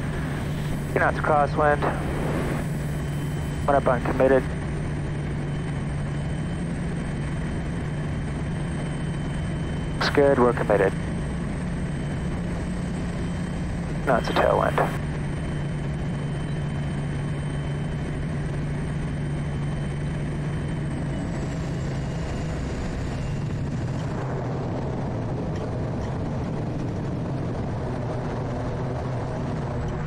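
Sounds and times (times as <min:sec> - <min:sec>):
turboprop engine drone and whine: 0:00.0 - 0:30.0.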